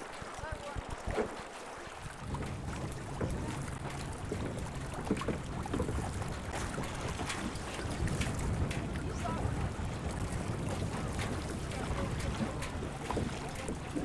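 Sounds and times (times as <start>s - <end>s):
water lapping: 0.0s - 14.0s
wind rumbling on microphone: 0.0s - 14.0s.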